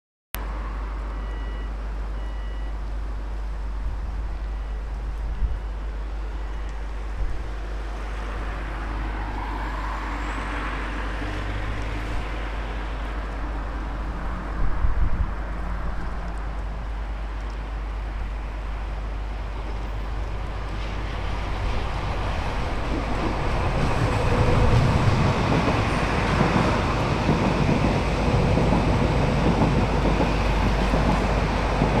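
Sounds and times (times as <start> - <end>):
train running rumble: 2.8 - 32.0.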